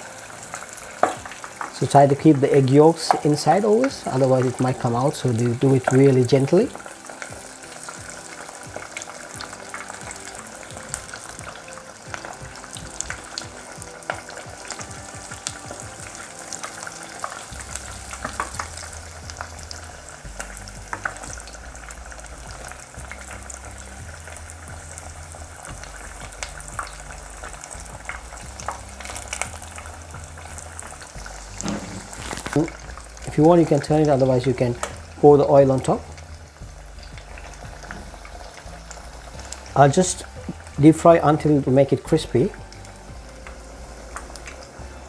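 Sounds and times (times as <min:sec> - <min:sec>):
deep-frying sizzle and pops: 0:00.0 - 0:45.0.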